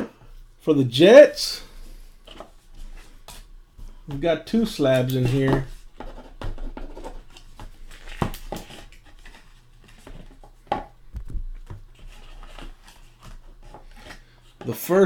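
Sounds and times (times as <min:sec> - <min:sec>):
faint low hum: 0:00.0 - 0:14.7.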